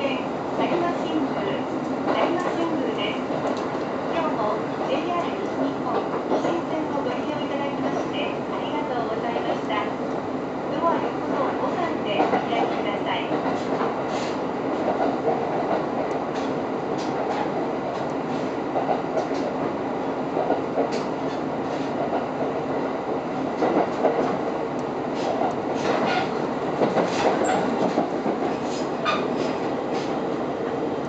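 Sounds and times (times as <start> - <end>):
train running noise: 0.0 - 31.0.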